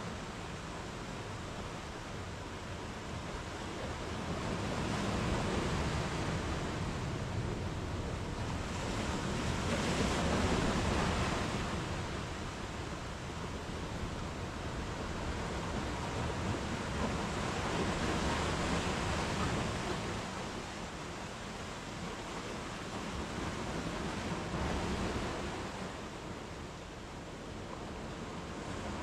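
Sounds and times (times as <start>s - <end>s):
sea waves breaking on beach: 0.1s - 29.0s.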